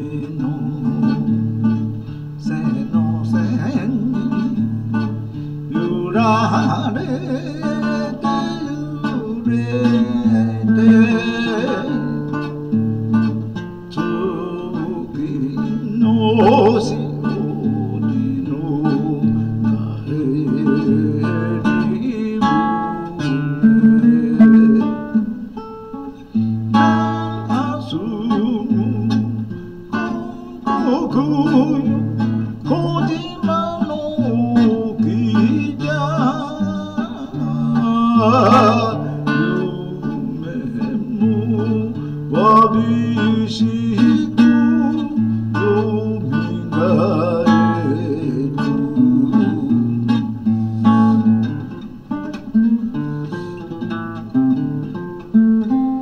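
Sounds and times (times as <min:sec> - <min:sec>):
nylon-string guitar melody: 0:00.0 - 0:56.0.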